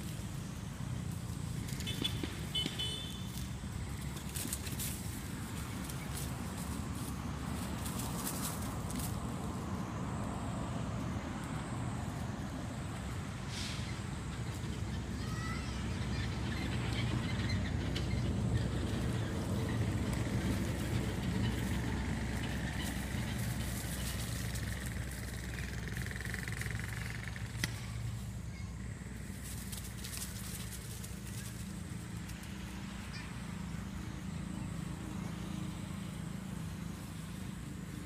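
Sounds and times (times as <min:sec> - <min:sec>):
vehicle engine humming: 0:00.0 - 0:38.0.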